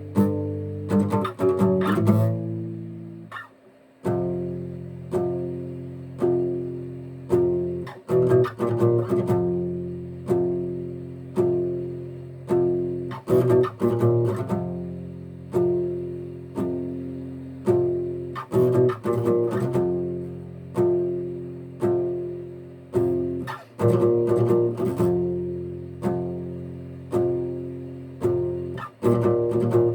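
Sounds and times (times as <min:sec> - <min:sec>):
acoustic guitar chords ringing: 0:00.0 - 0:29.9
picked guitar notes: 0:00.0 - 0:29.9.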